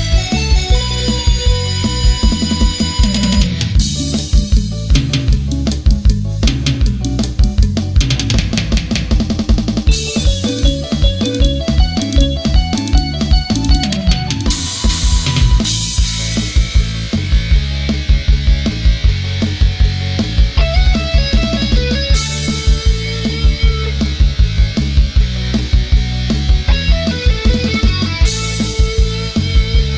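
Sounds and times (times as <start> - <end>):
stepping melody line: 0.0 - 8.5, 9.2 - 29.9
bass: 0.0 - 29.9
drum kit beat: 0.0 - 29.9
guitar: 0.0 - 29.9.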